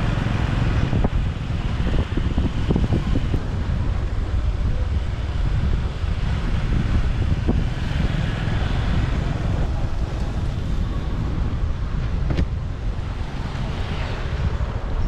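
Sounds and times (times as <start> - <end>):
motorbike engine rumble: 0.0 - 15.0
wind buffeting microphone: 0.0 - 15.0.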